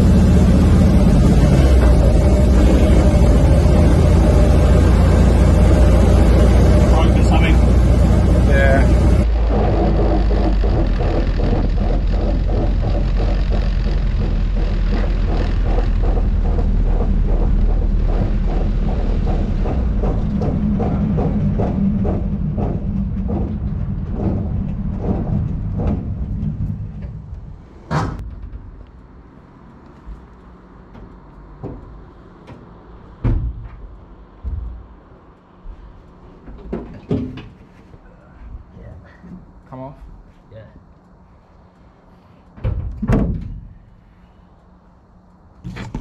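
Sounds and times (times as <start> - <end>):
repeated wheel knocking: 0.0 - 37.8
clunks: 0.0 - 40.2, 40.9 - 46.0
car rolling with low rumble: 0.0 - 46.0.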